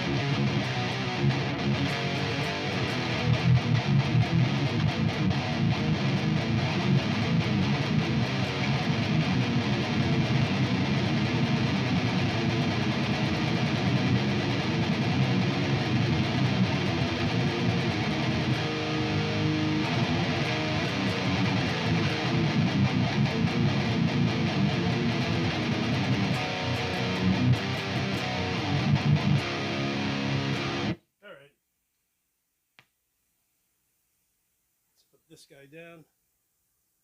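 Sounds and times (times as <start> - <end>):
electric guitar playing: 0.0 - 31.0.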